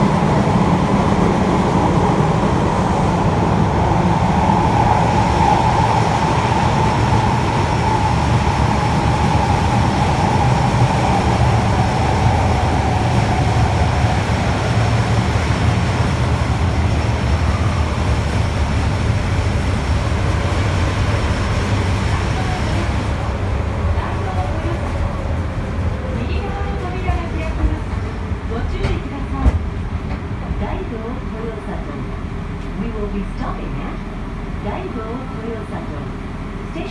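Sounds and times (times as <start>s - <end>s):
subway car running rumble: 0.0s - 36.9s.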